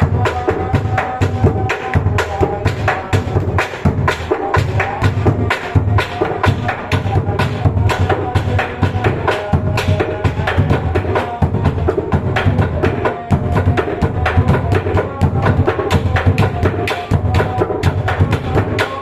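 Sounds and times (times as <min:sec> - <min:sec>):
drums beaten fast: 0:00.0 - 0:19.0.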